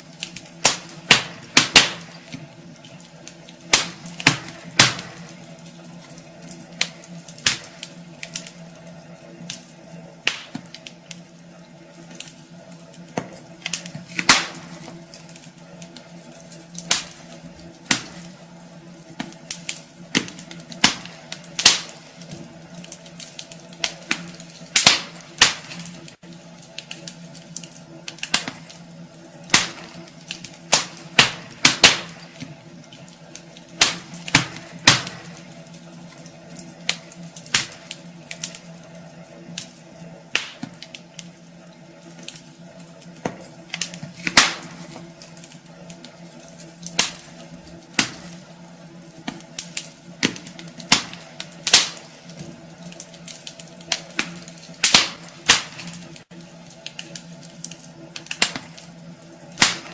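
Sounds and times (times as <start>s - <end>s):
faint steady hum: 0.0s - 59.9s
wood fire crackling and popping: 0.0s - 59.9s.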